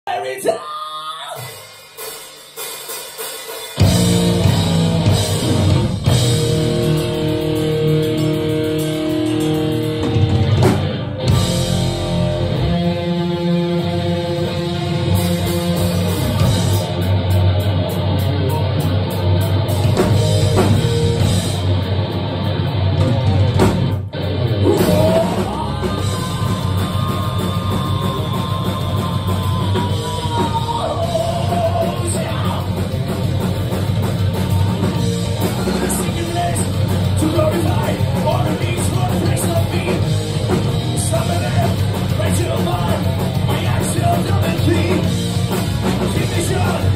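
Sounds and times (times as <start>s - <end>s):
distorted electric guitars: 0.1s - 46.9s
pounding drum kit: 1.2s - 46.9s
bass guitar: 3.7s - 46.9s
high sustained guitar lead: 3.8s - 46.9s.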